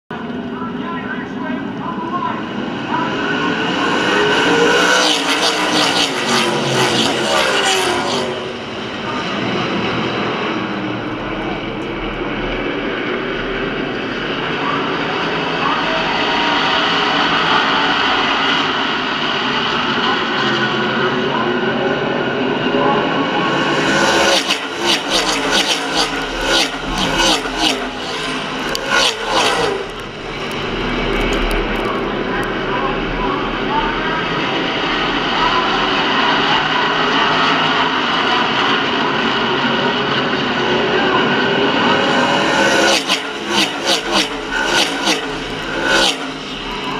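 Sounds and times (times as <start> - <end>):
distant race car engines drone: 0.1 - 46.9.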